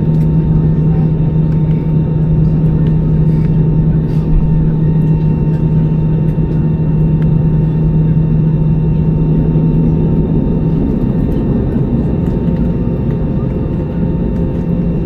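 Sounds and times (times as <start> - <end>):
aircraft cabin hum: 0.0 - 15.0.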